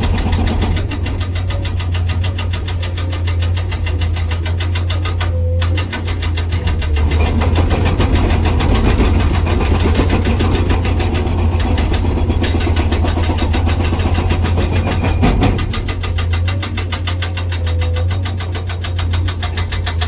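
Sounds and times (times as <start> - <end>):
excavator diesel engine hum: 0.0 - 20.0
hydraulic breaker hammering rock: 0.0 - 20.0.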